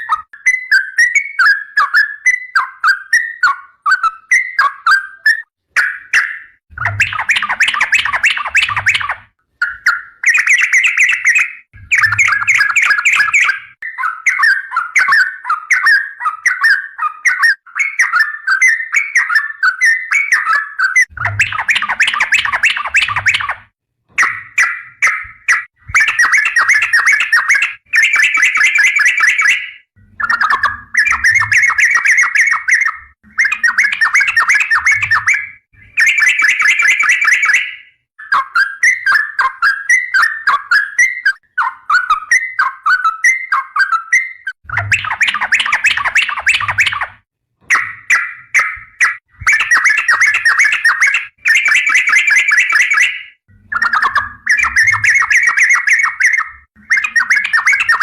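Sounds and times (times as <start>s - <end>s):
bird singing bubbling chatter: 0.0s - 58.0s.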